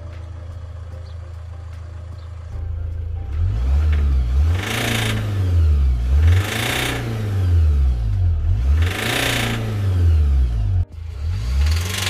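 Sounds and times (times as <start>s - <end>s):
diesel engine revving and knocking: 0.0s - 12.0s.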